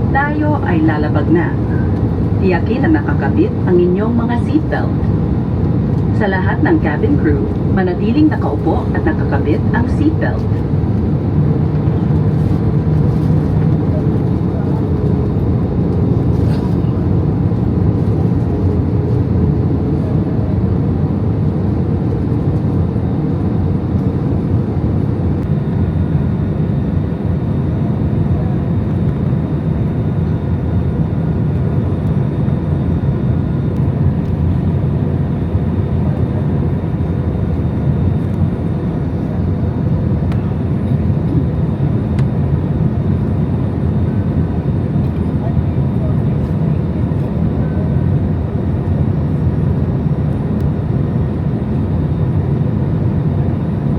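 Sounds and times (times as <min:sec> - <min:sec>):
jet engine cabin drone: 0:00.0 - 0:53.9.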